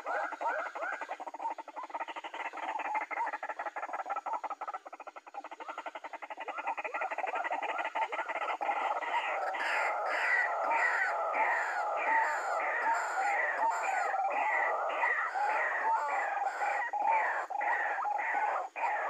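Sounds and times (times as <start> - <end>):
waterhen calling: 0.0 - 19.0.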